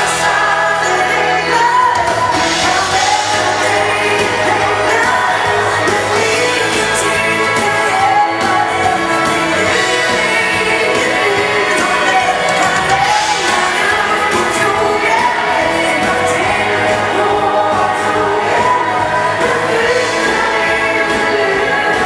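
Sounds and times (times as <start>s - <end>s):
lead singer singing: 0.0s - 22.0s
live dance band music: 0.0s - 22.0s.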